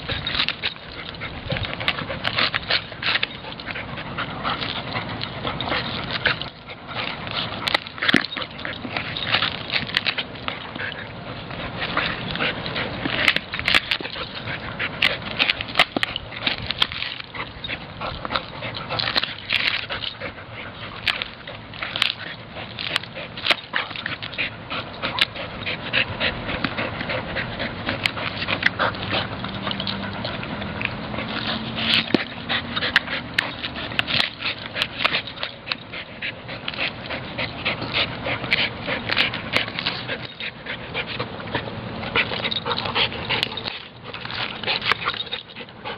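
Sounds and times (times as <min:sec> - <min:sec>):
dog chewing and cracking coconut husk: 0:00.0 - 0:45.9
dog panting: 0:00.0 - 0:45.9.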